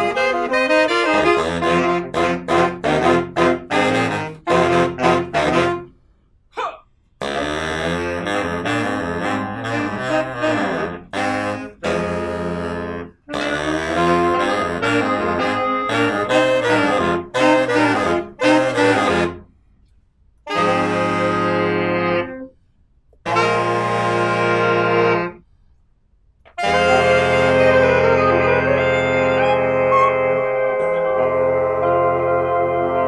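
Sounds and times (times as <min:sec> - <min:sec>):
saxophone ensemble playing: 0:00.0 - 0:05.9, 0:07.2 - 0:19.5, 0:20.5 - 0:22.6, 0:23.2 - 0:25.4, 0:26.5 - 0:33.0.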